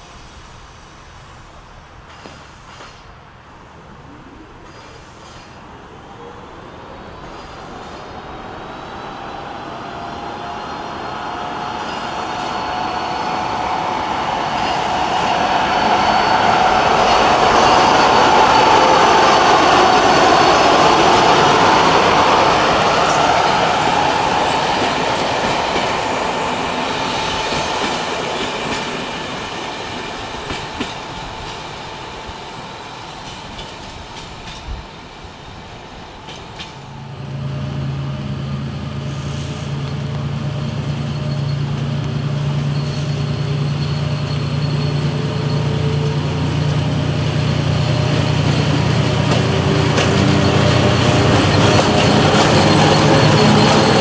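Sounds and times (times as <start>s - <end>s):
train wheels on rails: 0.0s - 3.8s, 4.6s - 54.0s
diesel locomotive engine drone: 0.0s - 54.0s.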